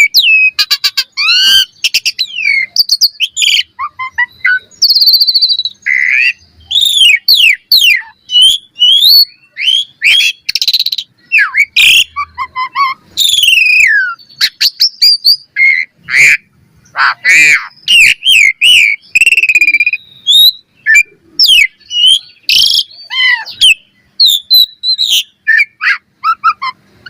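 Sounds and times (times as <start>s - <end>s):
starling singing: 0.0s - 27.0s.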